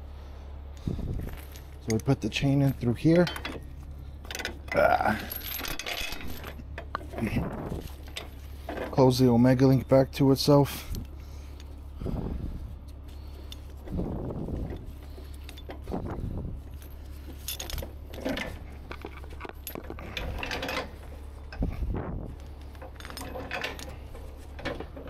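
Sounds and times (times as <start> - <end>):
steady low hum: 0.0 - 25.0
metal chain clinking and rattling: 1.2 - 11.8, 13.0 - 25.0.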